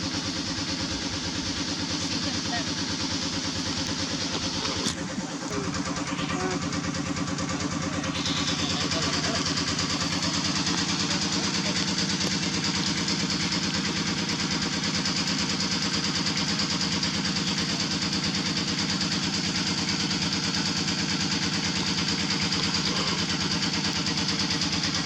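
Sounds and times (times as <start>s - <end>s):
small engine idling: 0.0s - 25.0s.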